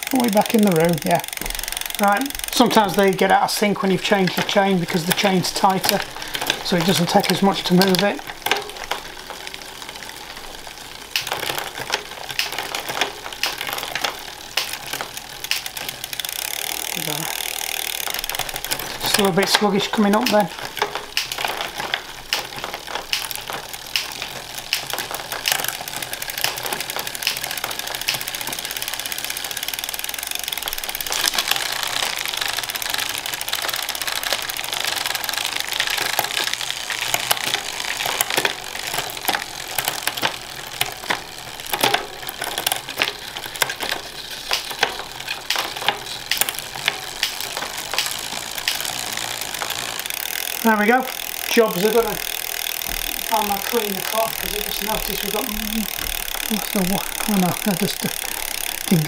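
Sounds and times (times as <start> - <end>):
bicycle chain rattling: 0.0 - 59.0
gear shifting clicks: 0.0 - 59.0.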